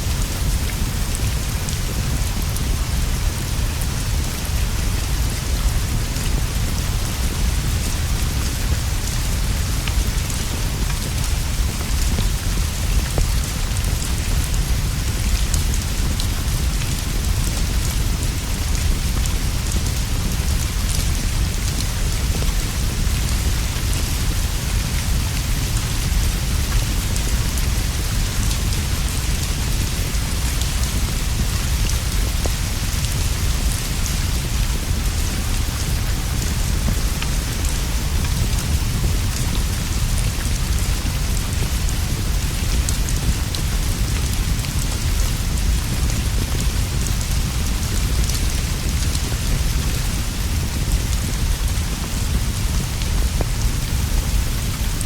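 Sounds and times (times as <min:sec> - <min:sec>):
rain pattering on leaves and roof: 0:00.0 - 0:55.0.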